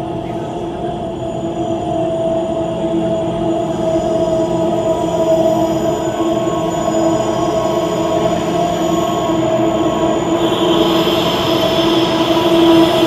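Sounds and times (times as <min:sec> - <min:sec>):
electric train rumbling in tunnel: 0:00.0 - 0:13.0.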